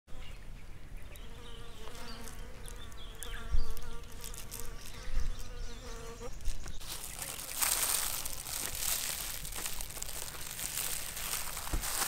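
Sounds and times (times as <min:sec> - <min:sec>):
insect buzzing: 0:01.1 - 0:12.0.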